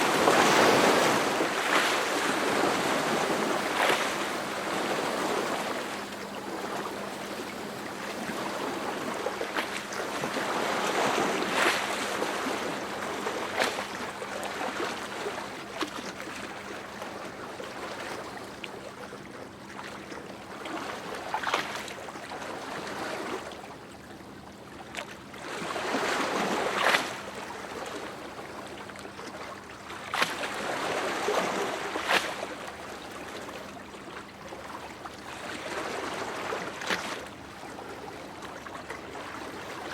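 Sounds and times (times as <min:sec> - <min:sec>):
faint steady hum: 0:00.0 - 0:39.9
sea waves breaking on shore: 0:00.0 - 0:39.9.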